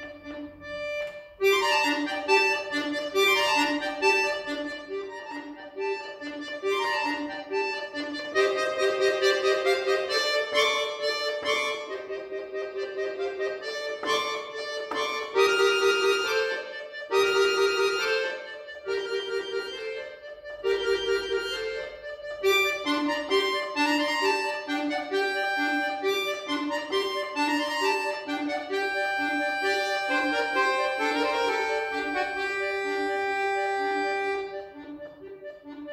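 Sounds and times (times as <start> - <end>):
button accordion playing: 0.0 - 35.9.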